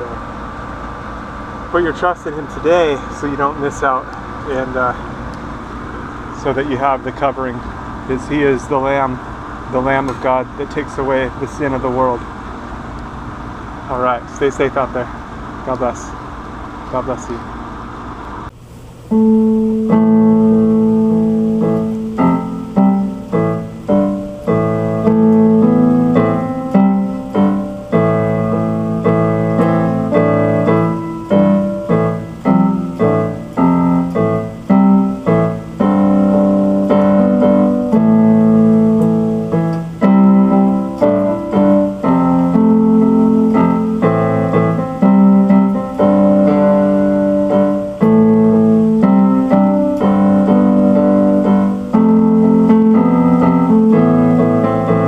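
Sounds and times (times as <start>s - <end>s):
piano or keyboard music: 0.0s - 15.0s, 19.0s - 55.0s.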